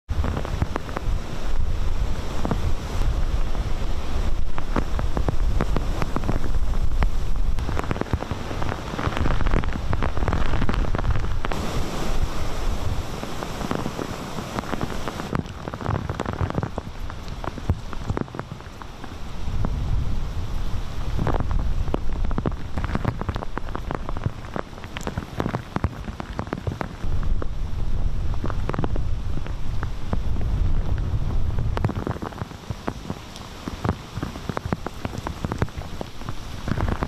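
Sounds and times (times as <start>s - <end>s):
driving rain: 0.0s - 37.0s
breaking surf: 0.1s - 37.0s
wind buffeting microphone: 0.1s - 37.0s.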